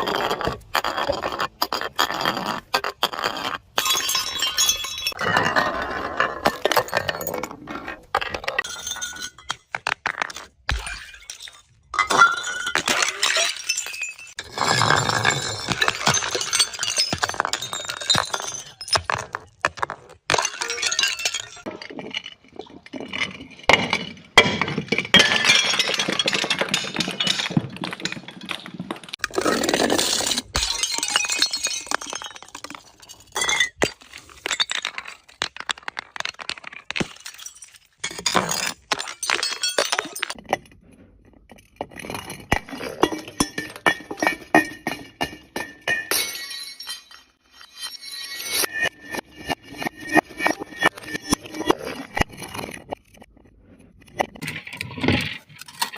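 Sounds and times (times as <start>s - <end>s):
glass bottles breaking: 3.6s - 5.6s, 8.6s - 40.4s, 41.8s - 52.8s.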